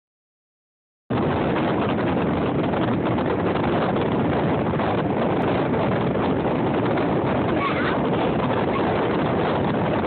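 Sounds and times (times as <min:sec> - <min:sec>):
boat motor: 0:01.1 - 0:10.0
water rushing: 0:01.1 - 0:10.0
wind buffeting microphone: 0:01.1 - 0:10.0.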